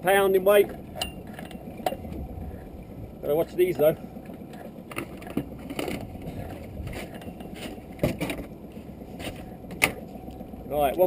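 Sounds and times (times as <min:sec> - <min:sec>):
water lapping against boat hull: 0:00.5 - 0:10.6.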